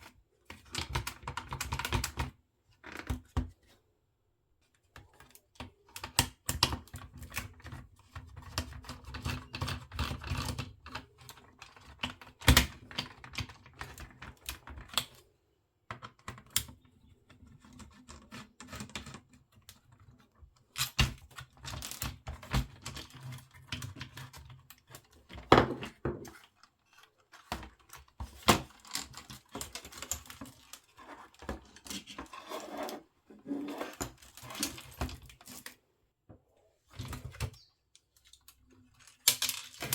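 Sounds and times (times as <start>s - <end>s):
plastic parts and tools clicking: 4.9s - 15.2s, 15.9s - 35.8s, 36.9s - 39.9s.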